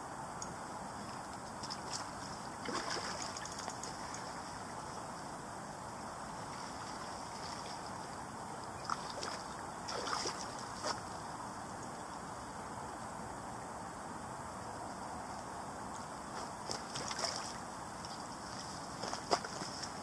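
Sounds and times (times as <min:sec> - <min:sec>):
wind hiss: 0:00.0 - 0:20.0
moving water at bank: 0:00.2 - 0:20.0.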